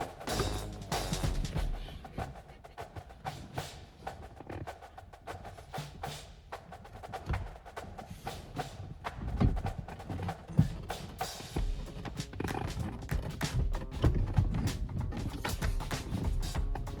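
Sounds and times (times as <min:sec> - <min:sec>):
music with knocking beat: 0:00.0 - 0:04.6, 0:05.3 - 0:17.0.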